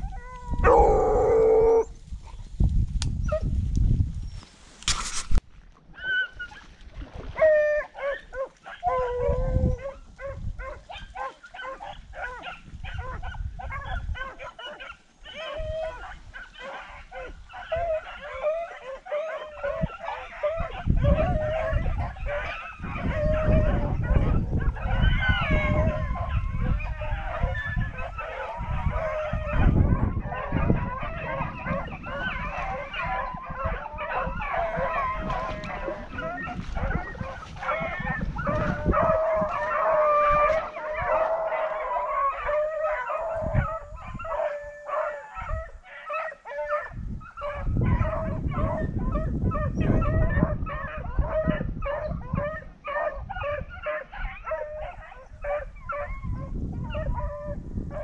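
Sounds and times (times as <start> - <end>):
pack of hounds baying: 0.0 - 1.9, 7.4 - 58.0.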